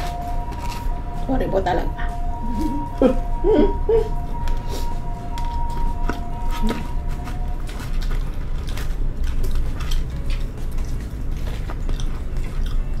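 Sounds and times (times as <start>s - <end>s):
chewing with wet mouth smacks: 2.0s - 13.0s.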